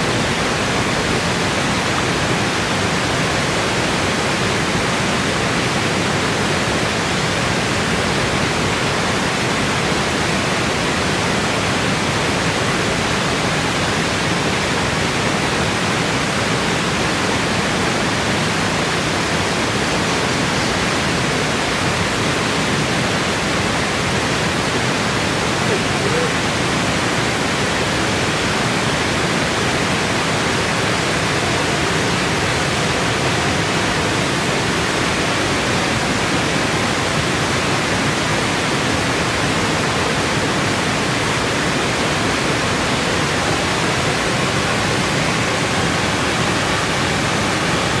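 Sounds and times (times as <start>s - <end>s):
water rushing over waterfall: 0.0s - 48.0s.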